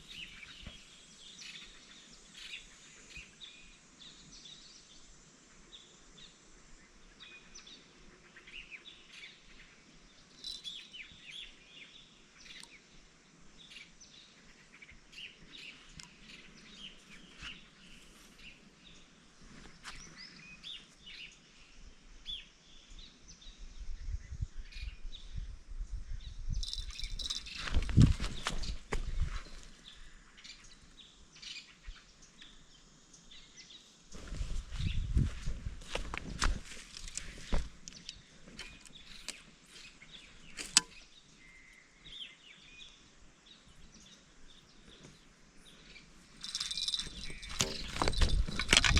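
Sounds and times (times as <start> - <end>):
small birds chirping: 0.0 - 25.4, 26.2 - 48.9.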